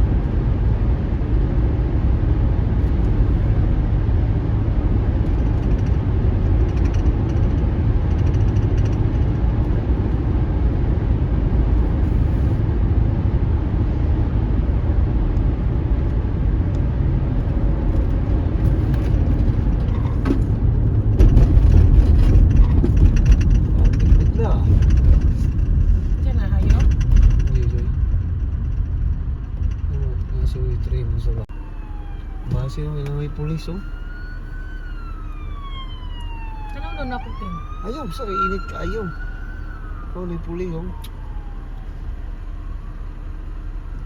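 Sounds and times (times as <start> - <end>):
car cabin road and engine rumble: 0.0 - 44.0.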